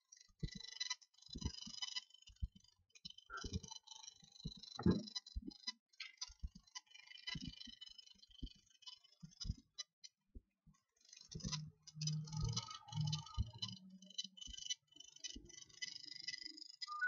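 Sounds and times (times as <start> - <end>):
light clicks and ticks: 0.1 - 17.0.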